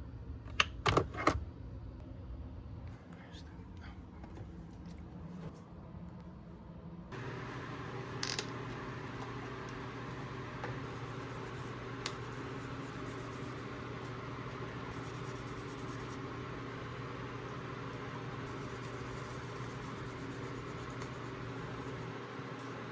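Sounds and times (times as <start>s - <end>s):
steady hum: 1.4s - 22.9s.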